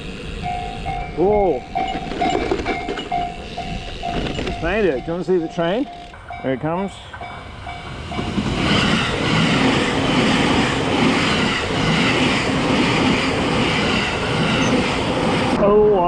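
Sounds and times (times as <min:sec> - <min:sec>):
train passing close by: 0:00.0 - 0:16.0.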